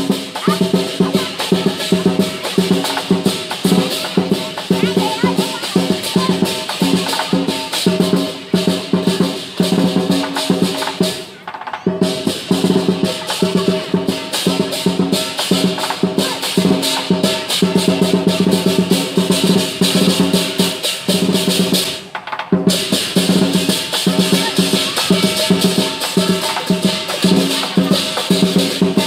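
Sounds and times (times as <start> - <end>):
clashing cymbals: 0.0 - 29.0
drum beaten fast: 0.0 - 29.0.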